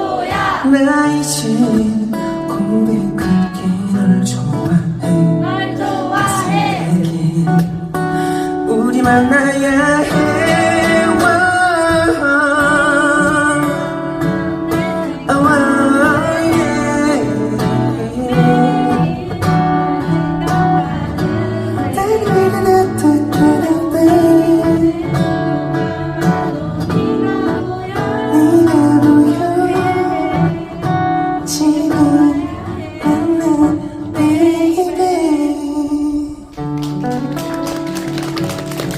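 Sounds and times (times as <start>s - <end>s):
person singing: 0.0s - 36.6s
acoustic guitar playing: 0.0s - 38.9s.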